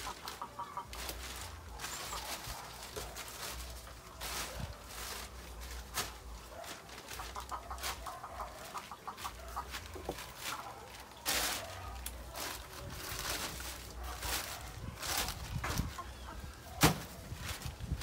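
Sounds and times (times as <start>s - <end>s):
chicken clucking: 0.0s - 16.8s
plastic tarp crinkling: 0.0s - 18.0s.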